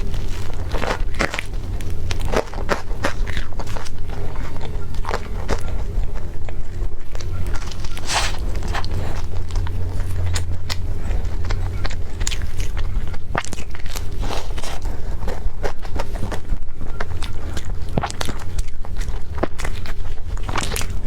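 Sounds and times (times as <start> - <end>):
biting and chewing food: 0.0 - 21.0
steady low hum: 0.0 - 21.0.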